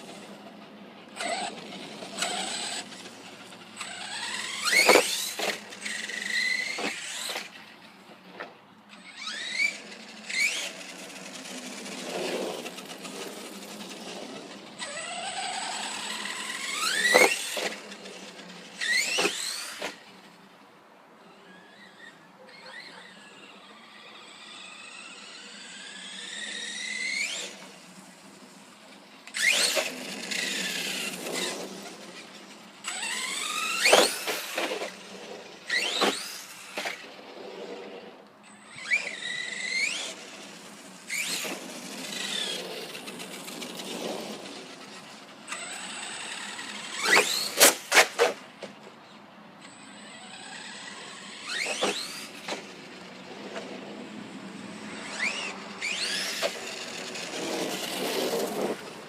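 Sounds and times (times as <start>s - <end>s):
electric motor whining: 1.1s - 7.6s, 8.9s - 20.0s, 22.8s - 28.3s, 29.2s - 37.8s, 38.5s - 48.3s, 49.6s - 59.0s.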